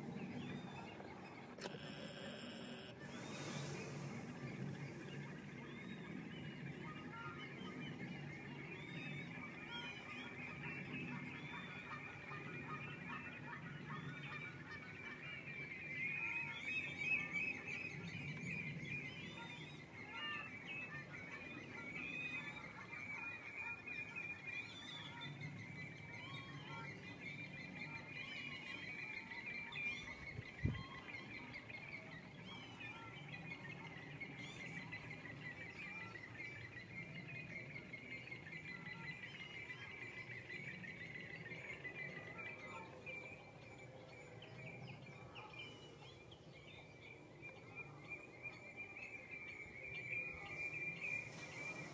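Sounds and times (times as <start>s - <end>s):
chorus of wetland birds calling: 0.0s - 51.9s.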